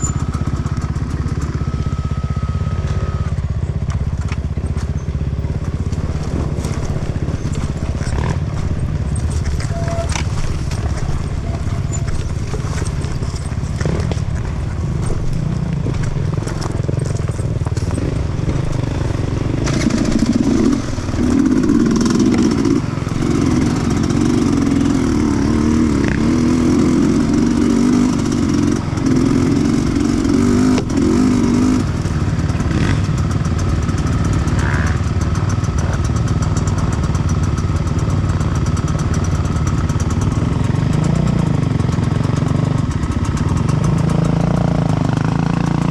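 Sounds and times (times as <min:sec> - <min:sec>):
two-stroke motorcycle engine running: 0:00.0 - 0:45.9.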